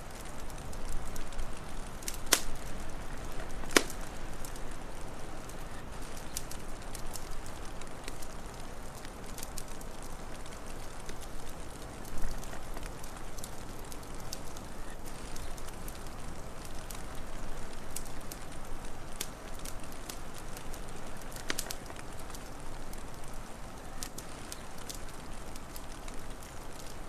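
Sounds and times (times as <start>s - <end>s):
wood fire crackling: 0.0s - 27.0s
sharp fire pops: 0.1s - 27.0s.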